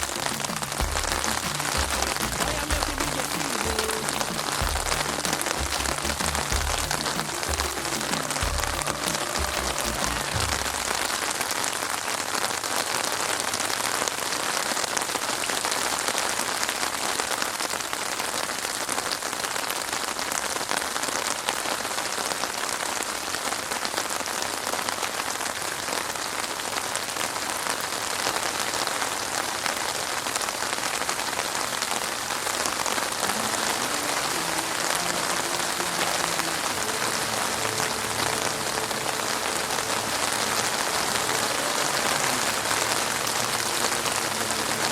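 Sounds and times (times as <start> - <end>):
heavy rain on a street: 0.0 - 44.9.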